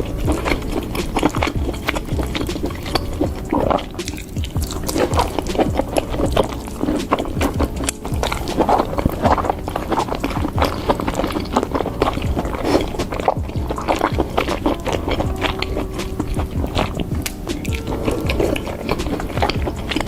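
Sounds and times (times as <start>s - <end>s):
soft music: 0.0s - 20.0s
wet chewing and lip smacking: 0.0s - 20.0s.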